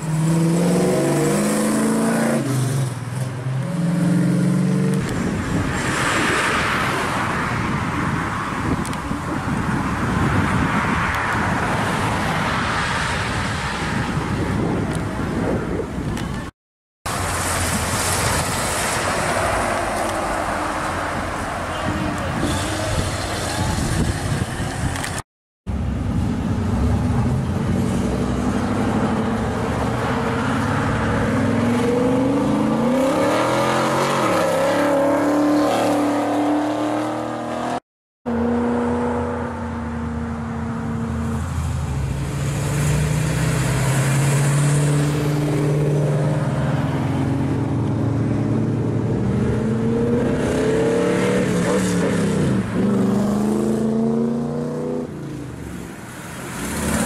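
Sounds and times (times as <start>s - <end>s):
cars accelerating and revving: 0.0s - 16.5s, 17.1s - 25.2s, 25.8s - 57.0s.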